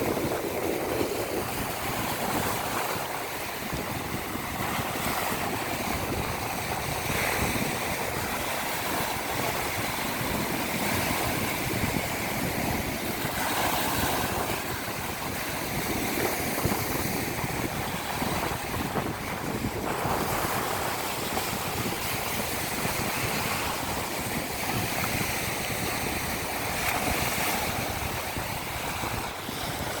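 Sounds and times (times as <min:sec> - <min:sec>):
surf breaking on the shore: 0:00.0 - 0:30.0
wind buffeting the microphone: 0:00.0 - 0:30.0.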